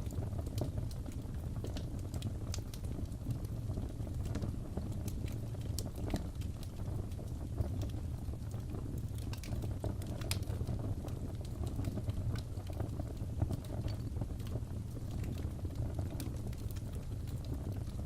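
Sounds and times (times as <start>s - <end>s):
fire pops and snaps: 0.0s - 18.0s
wood fire rumble: 0.0s - 18.0s.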